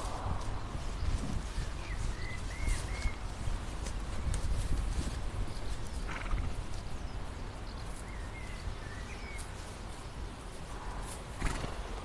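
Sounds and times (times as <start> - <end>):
horses munching grass: 0.0 - 12.0.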